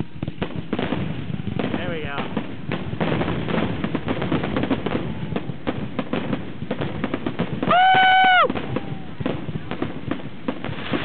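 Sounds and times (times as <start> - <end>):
fireworks bursts and crackling: 0.0 - 11.0.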